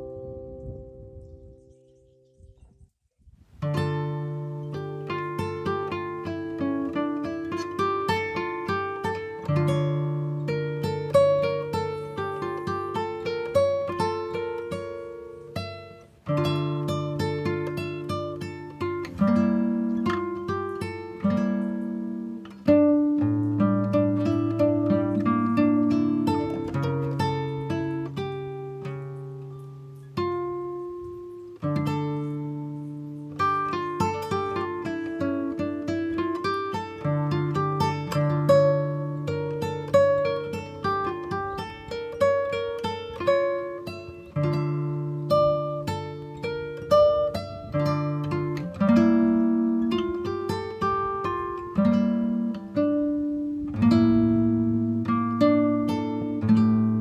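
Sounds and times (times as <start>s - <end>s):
plucked acoustic guitar: 3.6s - 57.0s.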